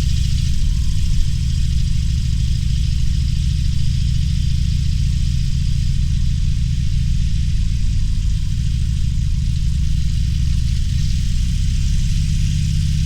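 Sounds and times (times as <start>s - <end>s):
motorcycle engine low throb: 0.0s - 13.0s.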